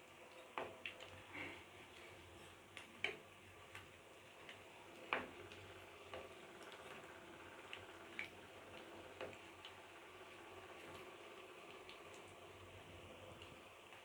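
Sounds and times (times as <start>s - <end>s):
food frying in oil: 0.0s - 14.0s
oil popping and crackling: 0.0s - 14.0s.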